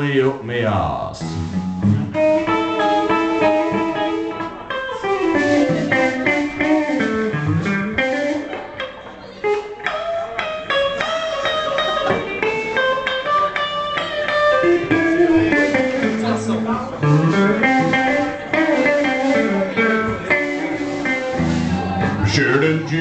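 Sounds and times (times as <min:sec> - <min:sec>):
electric guitar through an amp: 0:00.0 - 0:23.0.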